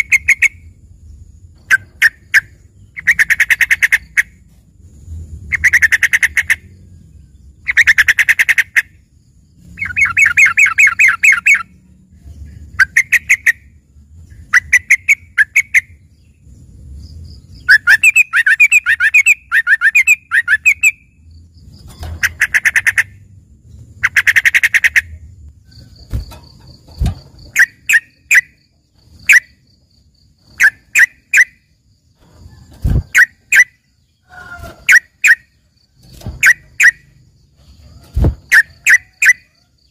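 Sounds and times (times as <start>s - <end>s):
bird rapid trilled song: 0.0s - 4.4s, 5.4s - 39.9s.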